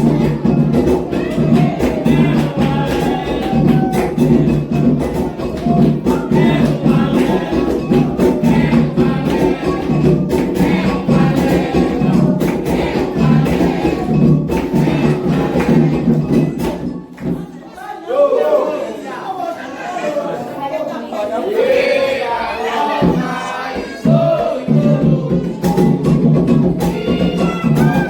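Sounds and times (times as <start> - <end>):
hand drums and percussion: 0.0 - 17.6, 23.0 - 28.0
group singing: 0.0 - 28.0.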